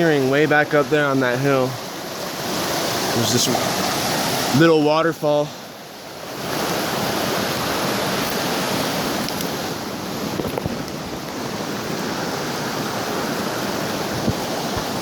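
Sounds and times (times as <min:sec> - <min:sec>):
small waterfall rushing: 0:00.0 - 0:15.0.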